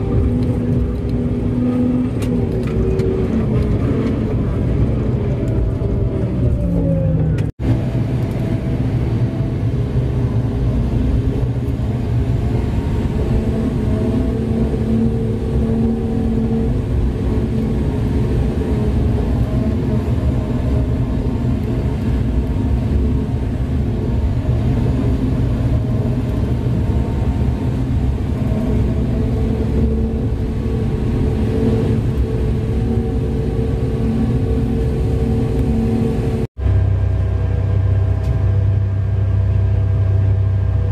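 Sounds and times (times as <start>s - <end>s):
large diesel engine rumbling: 0.0s - 40.9s.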